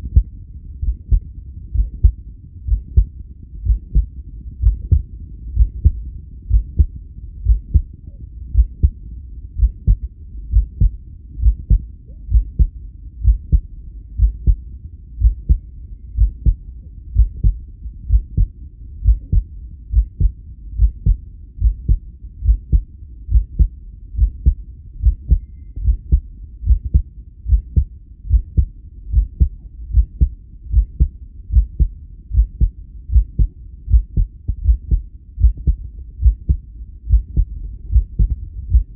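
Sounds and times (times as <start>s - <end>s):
heartbeat thumps: 0.0s - 9.0s, 9.6s - 15.6s, 16.2s - 38.9s.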